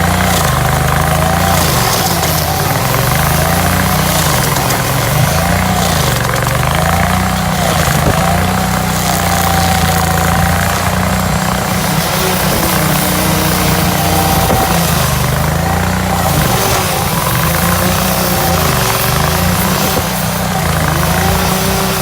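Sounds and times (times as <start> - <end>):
stump grinder engine under load: 0.0 - 22.0.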